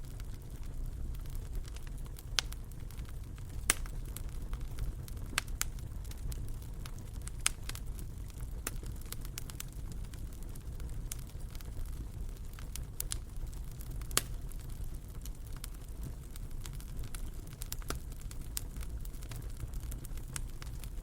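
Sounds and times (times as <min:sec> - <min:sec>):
low rumble of flames: 0:00.0 - 0:21.0
wood fire crackling: 0:00.0 - 0:21.0
sharp fire pops: 0:00.1 - 0:21.0.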